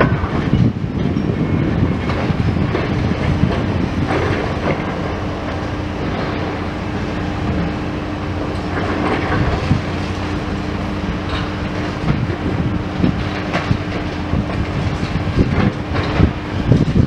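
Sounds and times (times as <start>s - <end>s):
concrete rattling and crunching: 0.0s - 17.0s
constant hum: 0.0s - 17.0s
excavator engine and hydraulics: 0.0s - 17.0s.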